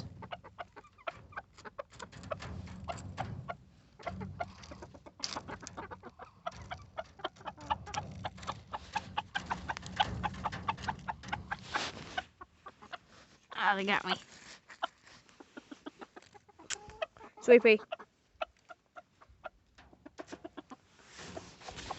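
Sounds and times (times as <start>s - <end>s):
chickens clucking softly: 0.0s - 21.9s
chickens pecking at leaves: 0.0s - 21.9s.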